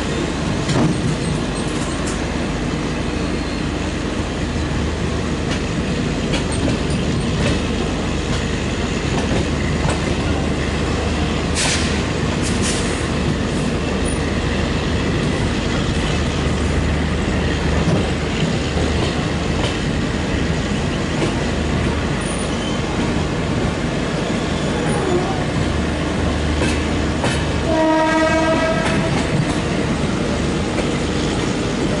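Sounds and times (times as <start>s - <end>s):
train coaches rumbling on track: 0.0s - 32.0s.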